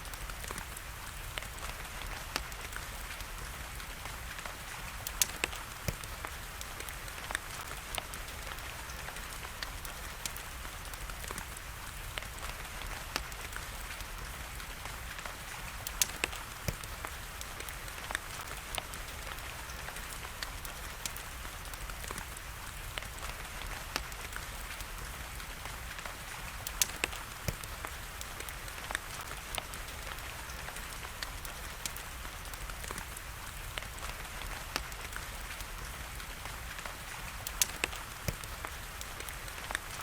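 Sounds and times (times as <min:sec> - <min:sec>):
rain hiss: 0:00.0 - 0:40.0
wood fire crackling and popping: 0:00.0 - 0:40.0.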